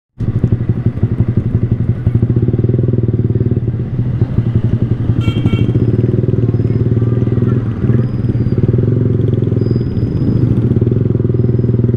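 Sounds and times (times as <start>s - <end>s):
motorcycle engine at low revs: 0.2s - 11.9s.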